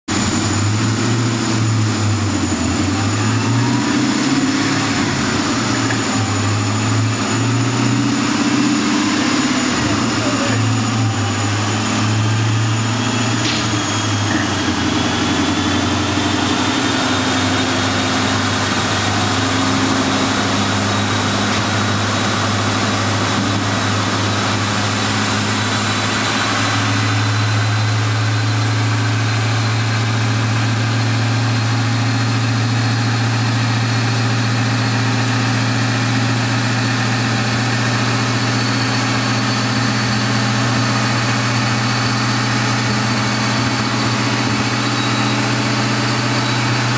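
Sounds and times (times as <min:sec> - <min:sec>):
car engine idling: 0:00.1 - 0:46.9.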